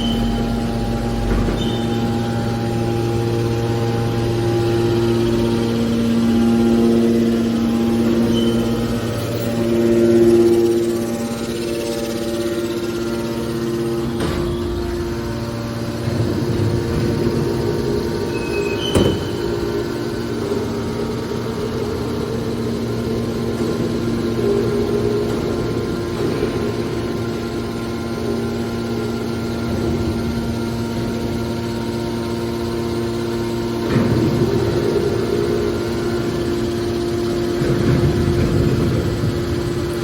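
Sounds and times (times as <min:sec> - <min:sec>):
hydraulic baler motor humming: 0:00.0 - 0:40.0.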